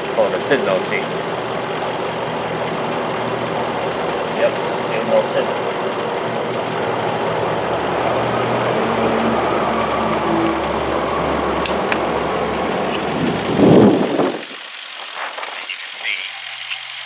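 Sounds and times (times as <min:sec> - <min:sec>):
car engine idling roughly: 0:00.0 - 0:17.0.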